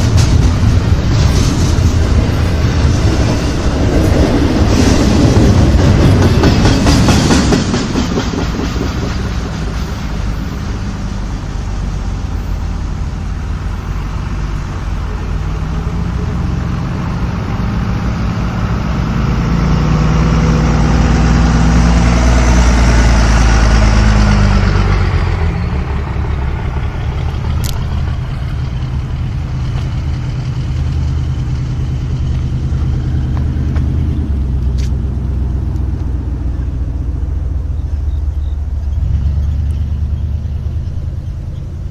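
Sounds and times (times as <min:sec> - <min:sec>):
vehicle engines running: 0:00.0 - 0:41.9.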